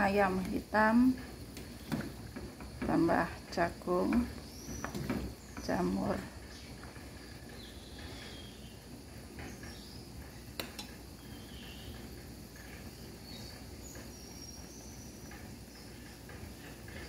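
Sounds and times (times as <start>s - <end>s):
soup boiling in a pot: 0.0s - 17.0s.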